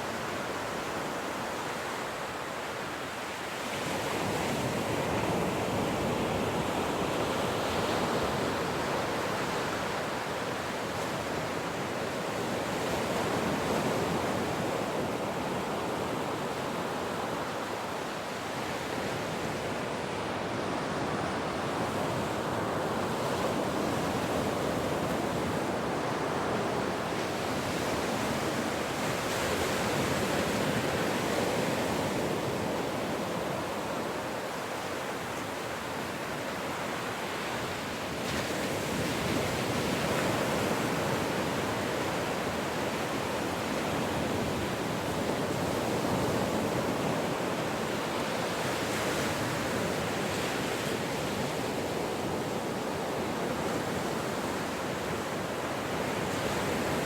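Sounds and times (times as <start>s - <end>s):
ocean waves washing on shore: 0.0s - 57.0s.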